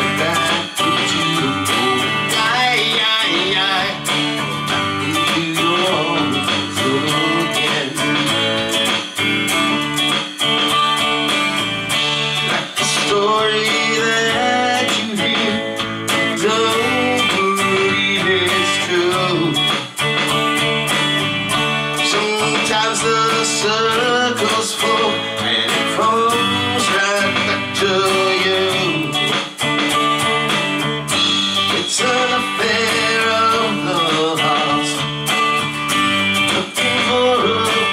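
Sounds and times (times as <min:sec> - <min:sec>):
man singing country song: 0:00.0 - 0:09.0, 0:12.2 - 0:20.0, 0:21.8 - 0:30.5, 0:31.1 - 0:35.7, 0:36.4 - 0:37.9
electric guitar strumming: 0:00.0 - 0:37.9.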